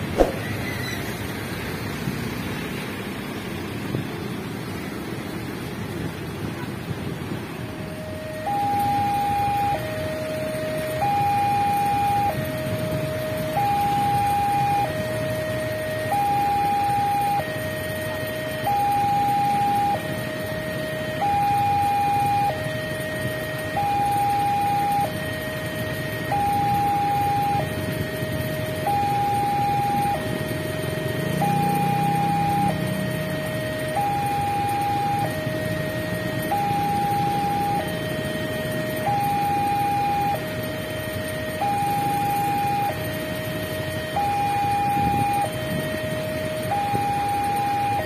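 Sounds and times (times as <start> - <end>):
road traffic hum: 0.0 - 48.0
level crossing two-tone alarm: 7.8 - 48.0.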